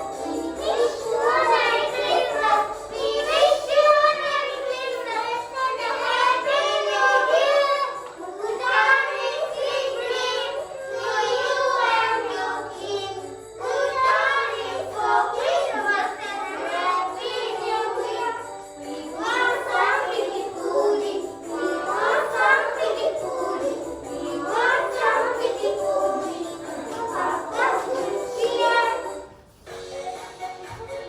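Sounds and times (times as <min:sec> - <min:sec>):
children singing together: 0:00.0 - 0:31.0.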